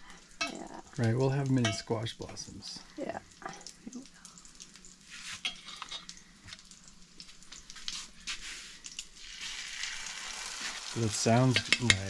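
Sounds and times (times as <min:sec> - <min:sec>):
hot fat crackling in frying pan: 0:00.0 - 0:12.0.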